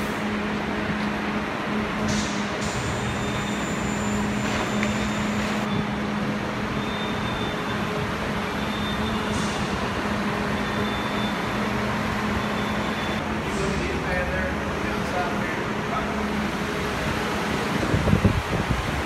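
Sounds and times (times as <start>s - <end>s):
construction machinery: 0.0s - 19.0s
traffic noise: 0.0s - 19.0s.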